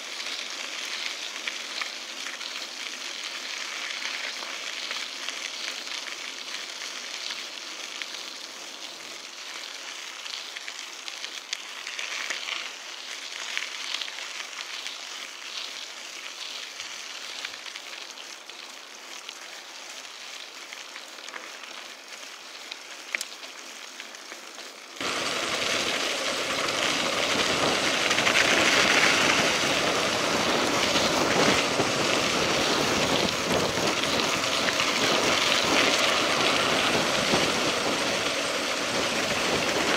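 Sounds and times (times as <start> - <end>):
bike tyres rolling on gravel: 0.0 - 39.9.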